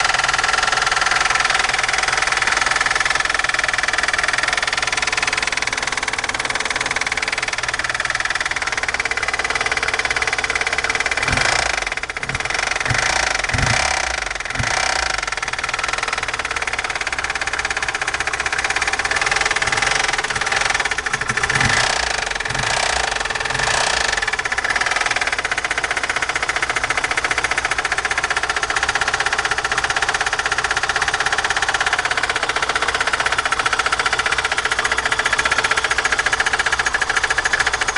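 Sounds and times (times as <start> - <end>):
car engine running: 0.0 - 37.9
rapid engine knock: 0.0 - 37.9.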